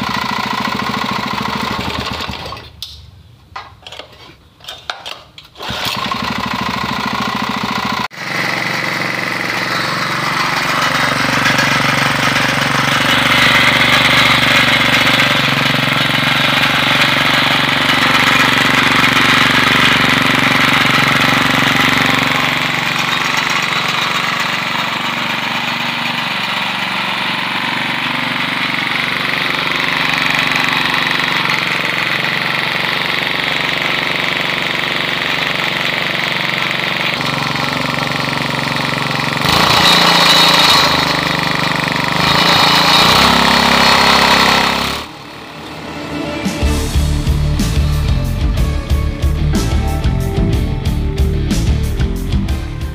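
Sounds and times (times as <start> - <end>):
small petrol engine running: 0.0 - 2.9, 5.5 - 49.8.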